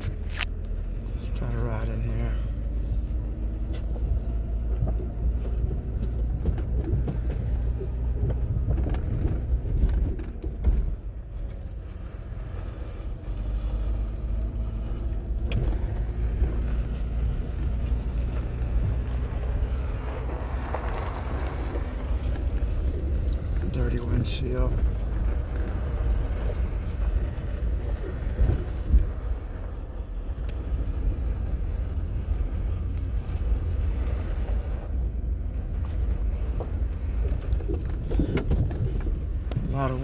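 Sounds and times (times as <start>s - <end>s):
truck engine and road rumble: 0.0s - 40.0s.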